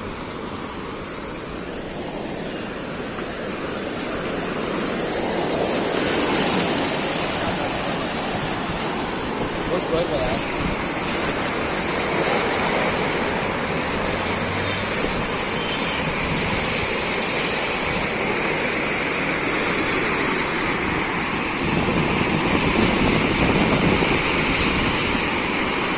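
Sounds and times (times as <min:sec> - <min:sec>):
river water pouring over waterfall: 0:00.0 - 0:25.9.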